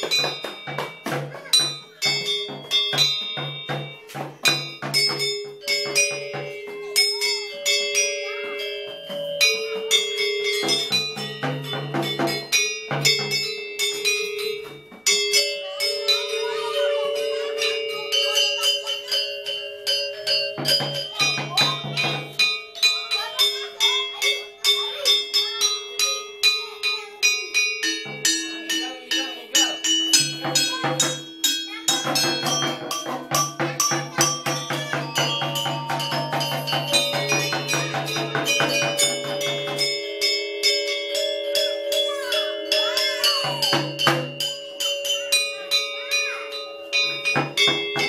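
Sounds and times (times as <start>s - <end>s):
gamelan metallophones playing: 0.0s - 48.0s.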